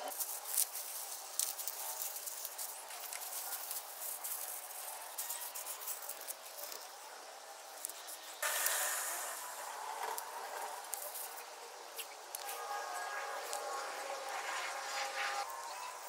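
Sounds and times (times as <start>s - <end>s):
tape unrolling rasp: 0.0s - 6.8s, 7.8s - 14.4s
masking tape crackling: 0.0s - 16.0s.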